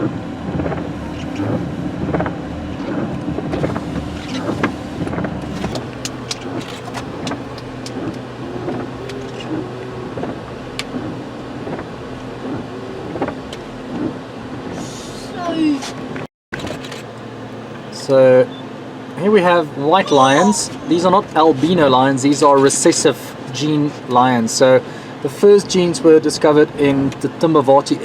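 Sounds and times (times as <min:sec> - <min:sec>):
vehicle engine running: 0:00.0 - 0:24.2.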